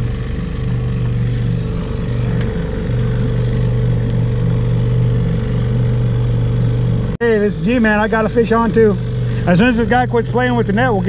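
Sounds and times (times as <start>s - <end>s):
small outboard motor running: 0.0s - 11.0s.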